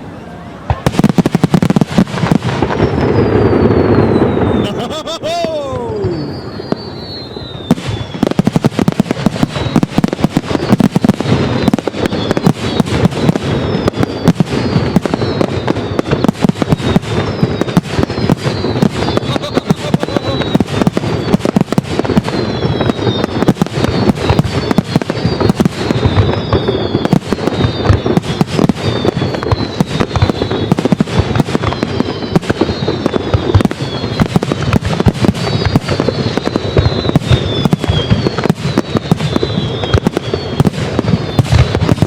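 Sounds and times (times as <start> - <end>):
falling firework whistles: 0.0 - 42.0
fireworks bangs and crackles: 0.0 - 42.0.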